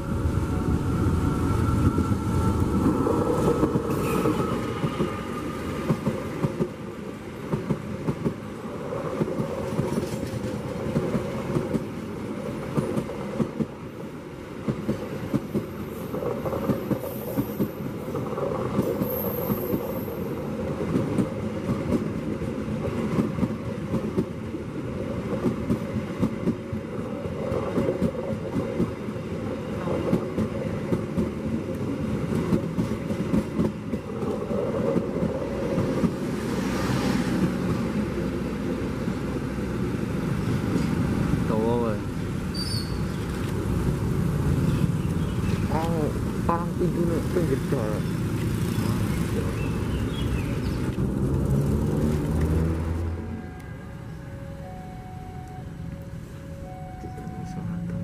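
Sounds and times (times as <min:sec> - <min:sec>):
train wheels rumbling on rails: 0:00.0 - 0:54.6.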